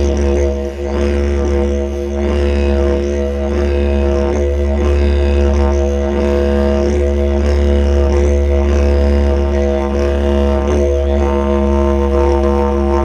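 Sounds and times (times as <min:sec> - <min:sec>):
didgeridoo drone: 0:00.0 - 0:13.0.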